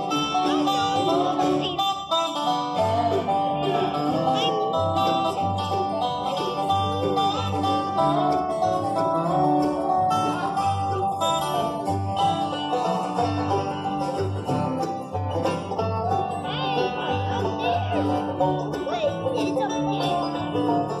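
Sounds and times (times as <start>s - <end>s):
bluegrass band playing: 0.0s - 21.0s
upright bass plucking: 0.0s - 21.0s.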